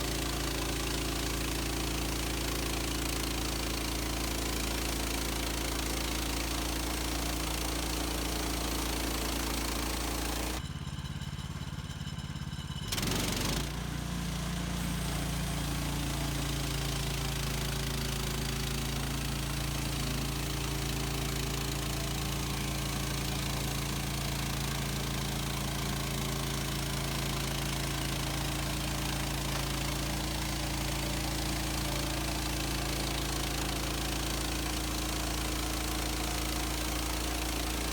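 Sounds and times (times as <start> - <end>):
sawmill engine running: 0.0 - 37.9.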